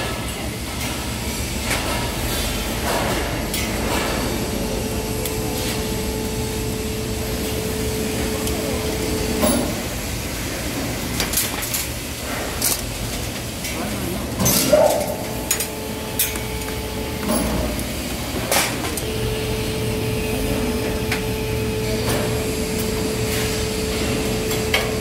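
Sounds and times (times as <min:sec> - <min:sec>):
construction site rumble: 0:00.0 - 0:25.0.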